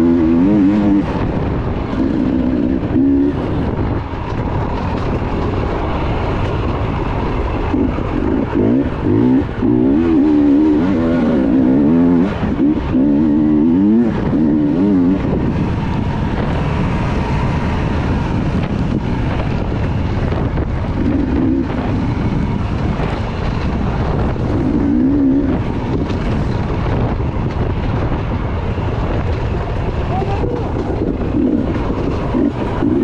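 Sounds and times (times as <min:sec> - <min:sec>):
loud steady rumble: 0:00.0 - 0:33.0
motorcycle engines revving: 0:00.0 - 0:33.0.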